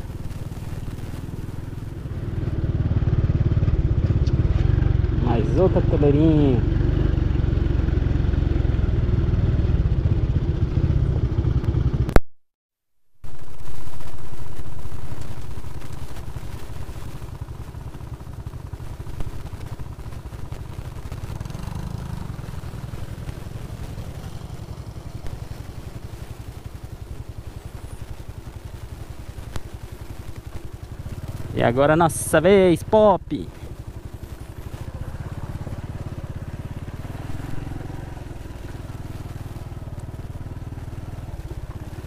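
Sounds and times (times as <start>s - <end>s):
small motorcycle engine: 0.0s - 12.2s, 13.3s - 42.0s.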